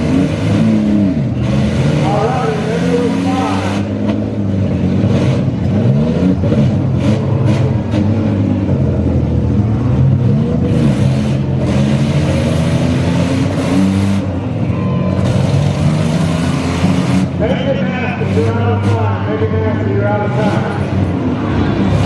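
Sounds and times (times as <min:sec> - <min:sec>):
engines revving: 0:00.0 - 0:22.0.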